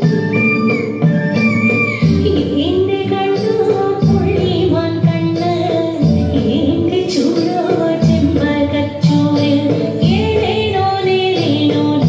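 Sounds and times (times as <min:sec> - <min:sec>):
folk dance music with singing: 0:00.0 - 0:12.0.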